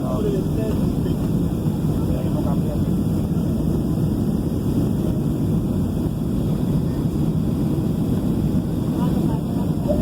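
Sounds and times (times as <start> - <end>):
jet engines rumbling: 0.0 - 10.0
wind buffeting microphone: 0.0 - 10.0.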